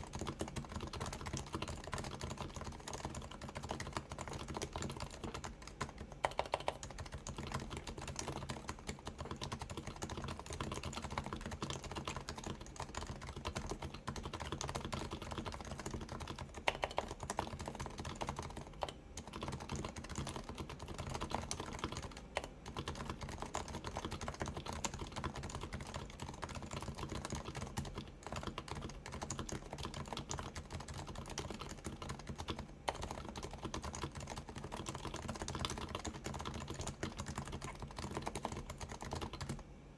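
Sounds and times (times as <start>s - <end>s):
keyboard typing: 0.0s - 39.6s.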